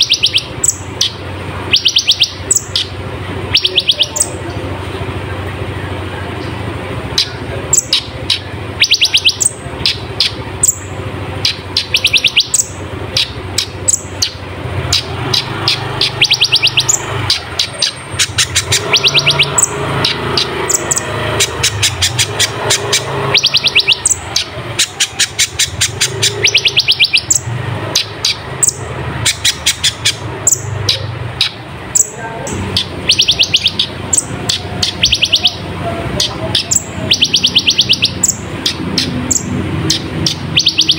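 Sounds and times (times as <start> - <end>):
steady low hum: 0.0 - 40.6
bird chirping and trilling: 0.0 - 40.9.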